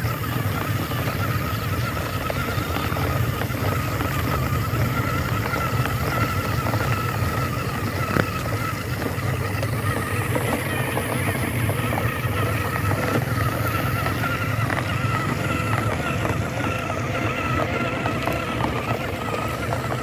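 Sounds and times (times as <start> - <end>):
small electric motor whine: 0.0 - 20.0.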